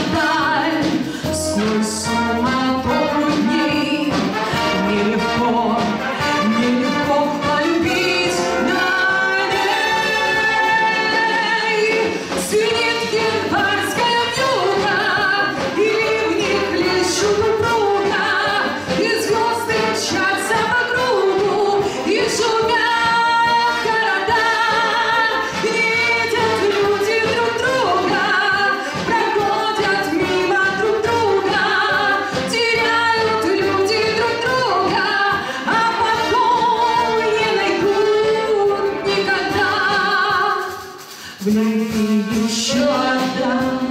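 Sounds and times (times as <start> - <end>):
brass band playing: 0.0 - 43.9
woman singing: 0.0 - 43.9.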